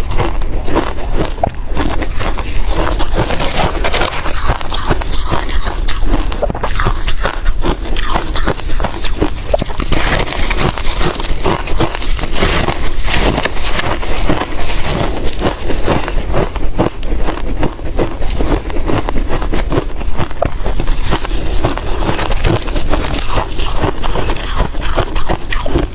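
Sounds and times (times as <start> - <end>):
ice being chewed: 0.0 - 25.9.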